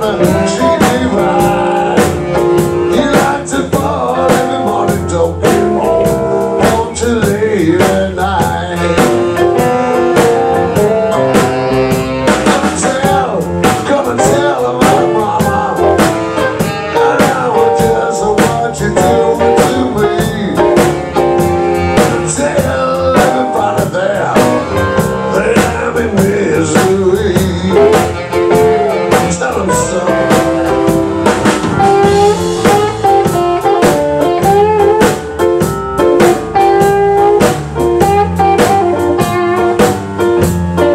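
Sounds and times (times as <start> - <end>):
drum kit beat: 0.0 - 40.9
live blues band: 0.0 - 40.9.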